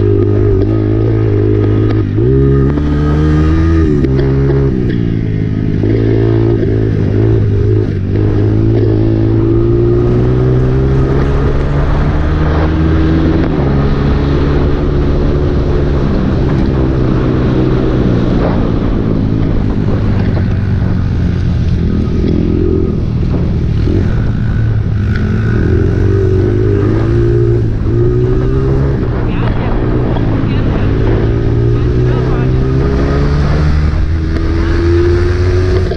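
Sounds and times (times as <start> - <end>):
dirt bike engine revving: 0.0 - 5.1, 5.7 - 35.9.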